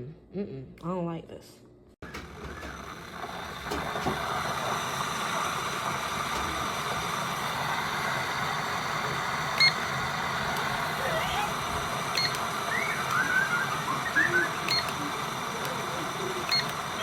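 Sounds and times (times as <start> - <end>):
electric kettle heating water: 2.0 - 17.0.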